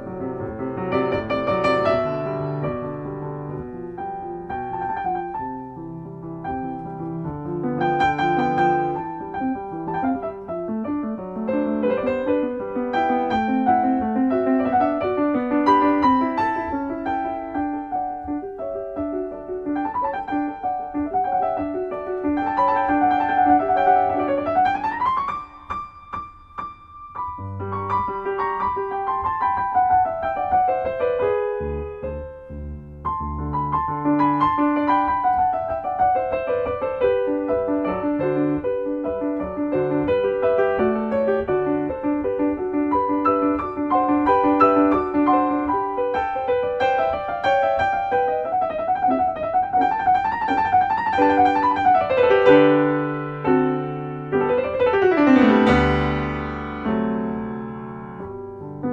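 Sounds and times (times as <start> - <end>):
piano music: 0.0 - 58.9.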